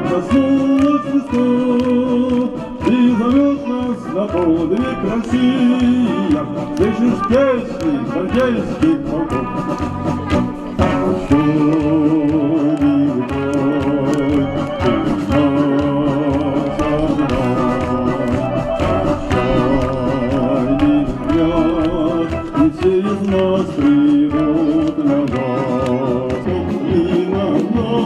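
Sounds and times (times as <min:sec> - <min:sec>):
musical accompaniment: 0:00.0 - 0:28.0
person singing with vibrato: 0:00.0 - 0:28.0.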